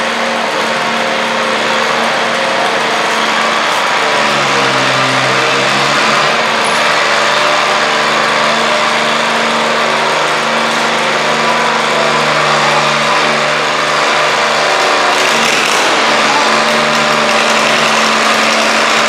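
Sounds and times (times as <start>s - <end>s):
tractor engine droning at high revs: 0.0s - 19.0s.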